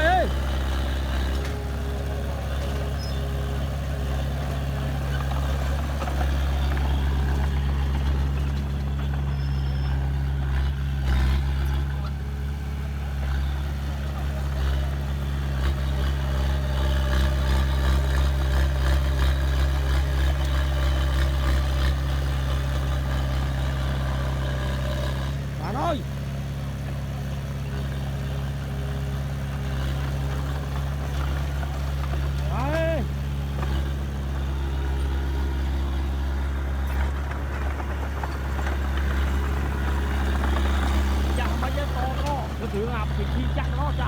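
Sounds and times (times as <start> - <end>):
heavy diesel engine droning: 0.0 - 44.0.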